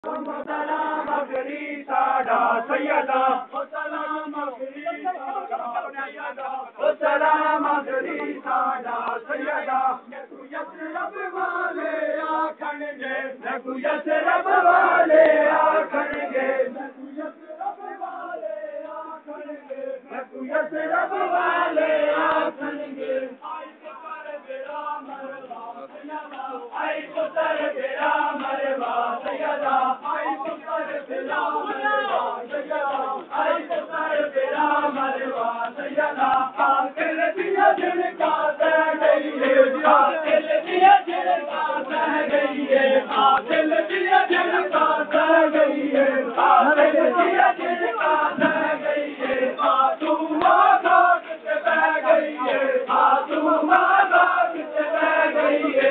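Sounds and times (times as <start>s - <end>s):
crowd of men chanting a lament: 0.0s - 55.9s.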